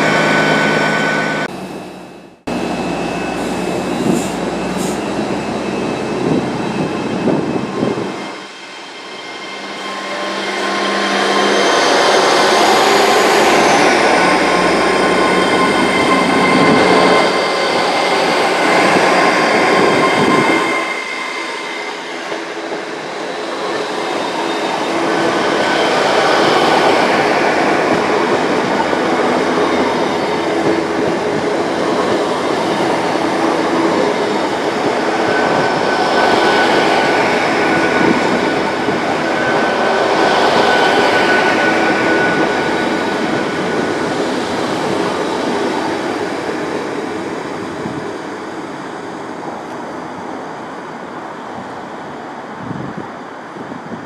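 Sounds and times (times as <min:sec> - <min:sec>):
train wheels rushing on rails: 0:00.0 - 0:54.0.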